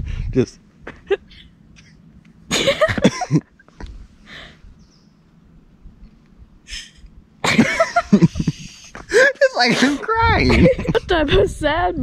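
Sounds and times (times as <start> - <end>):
quiet outdoor background: 0.0 - 12.0.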